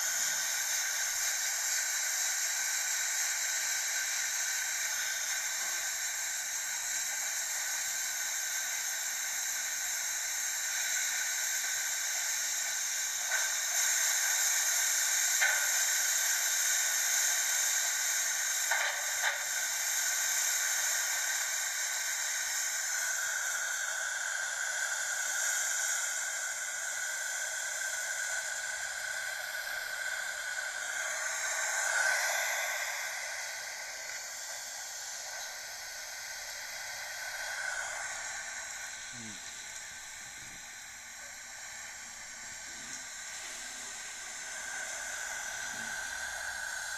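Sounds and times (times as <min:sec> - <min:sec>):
water jets hissing: 0:00.0 - 0:46.9.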